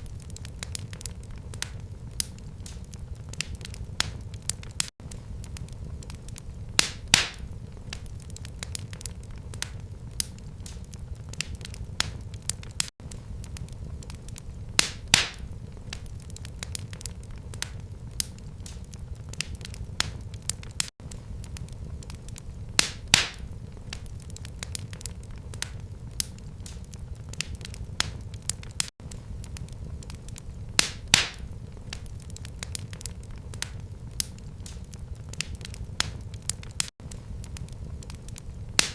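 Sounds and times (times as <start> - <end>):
sharp pops from fire: 0.0 - 38.9
wood fire crackling: 0.0 - 38.9.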